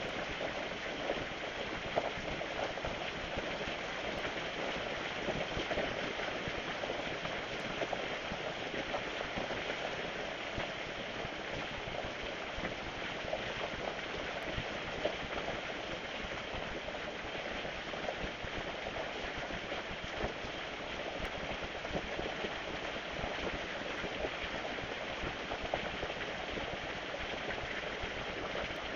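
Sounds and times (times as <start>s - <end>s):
rain falling: 0.0s - 28.9s.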